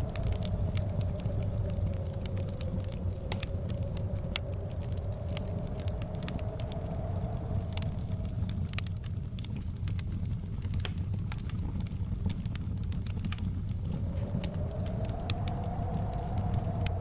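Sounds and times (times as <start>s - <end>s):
faint howling wind: 0.0s - 17.0s
sharp crackles and ticks: 0.0s - 17.0s
wind rumbling: 0.0s - 17.0s.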